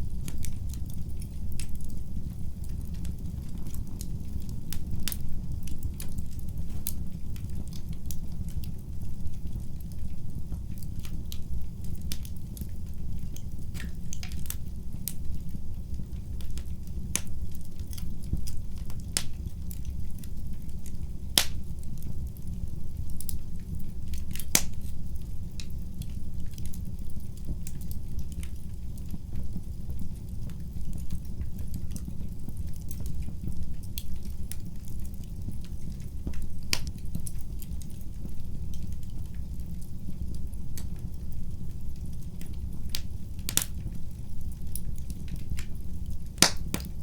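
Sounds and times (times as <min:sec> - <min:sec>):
fire crackling and popping: 0:00.0 - 0:47.0
low rumble of flame: 0:00.0 - 0:47.0.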